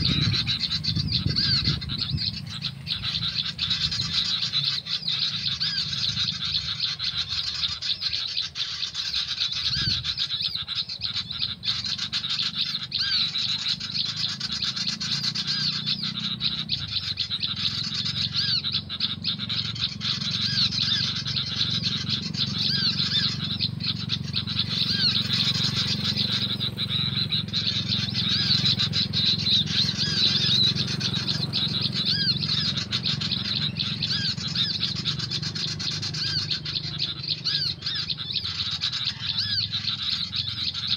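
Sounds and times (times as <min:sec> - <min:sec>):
recorded bird song chirps: 0:00.0 - 0:40.9
steady low hum: 0:00.0 - 0:40.9.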